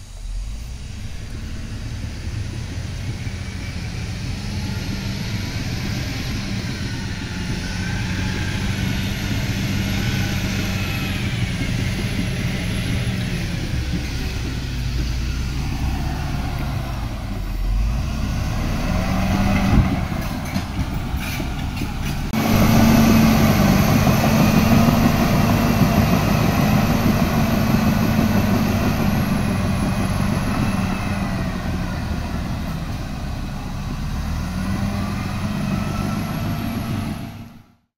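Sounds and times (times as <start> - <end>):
bulldozer diesel engine working: 0.0 - 37.9.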